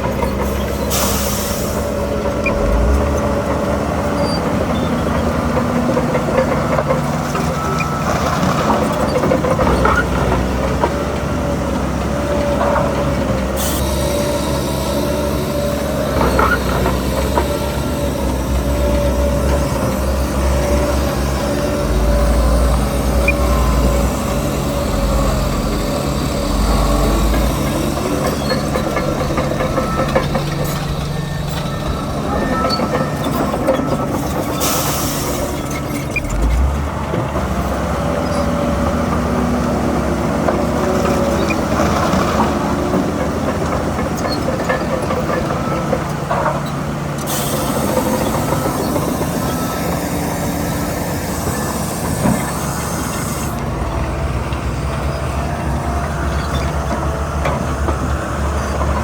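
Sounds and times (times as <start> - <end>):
metallic squeals and clanks: 0.0 - 10.7, 12.3 - 36.8, 40.9 - 53.7, 54.5 - 59.0
diesel engine running: 0.0 - 59.0.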